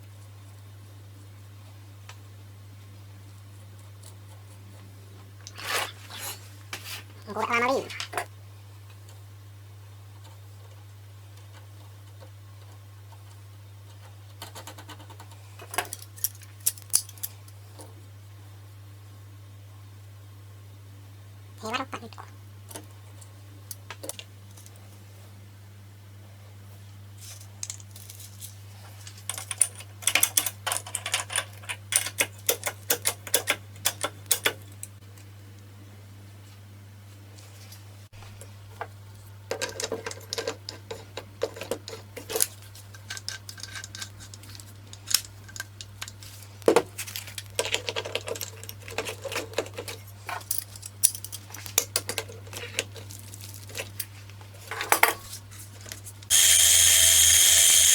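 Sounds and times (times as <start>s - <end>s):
low electrical hum: 0.0s - 57.9s.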